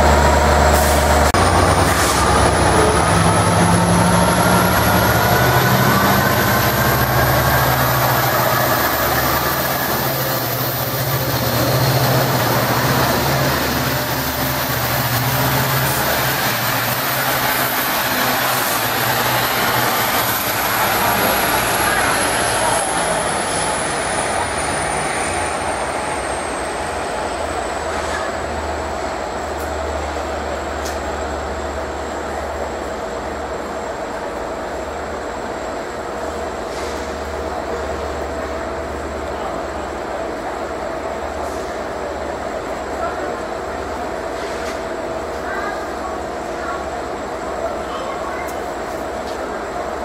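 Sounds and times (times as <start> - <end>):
diesel locomotive engine rumble: 0.0 - 50.0
train coaches rolling on rails: 0.0 - 50.0.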